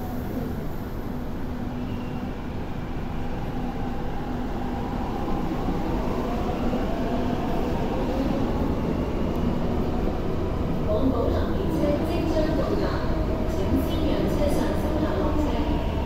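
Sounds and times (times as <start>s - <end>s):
train wheel and running noise: 0.0s - 16.0s.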